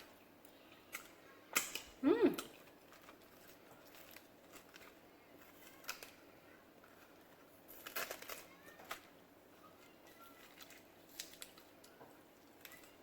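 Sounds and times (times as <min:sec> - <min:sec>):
crisp crunches: 0:02.4 - 0:13.0.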